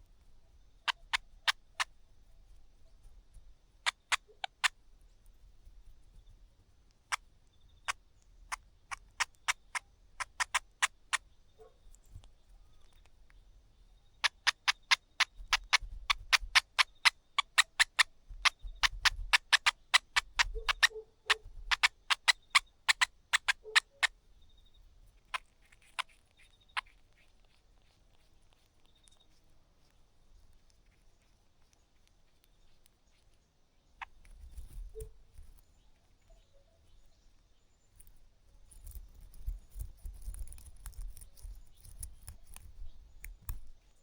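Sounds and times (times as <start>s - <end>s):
bird clicking call notes: 0.8s - 2.0s, 3.9s - 4.8s, 7.1s - 13.4s, 14.2s - 24.2s, 25.1s - 33.4s, 34.0s - 36.8s, 38.0s - 44.0s.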